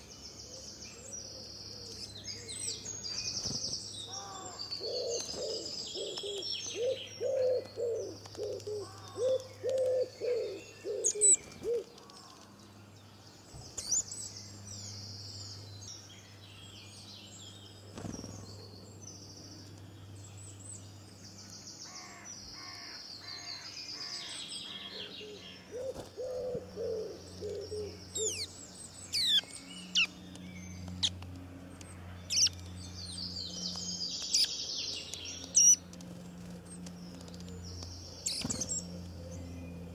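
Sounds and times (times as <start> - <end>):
birds chirping and trilling: 0.0 - 39.9
steady low hum: 0.0 - 39.9.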